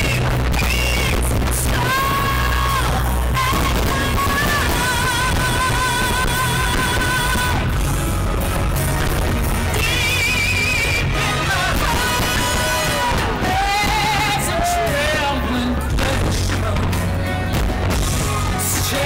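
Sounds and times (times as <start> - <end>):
steady bass line: 0.0 - 19.0.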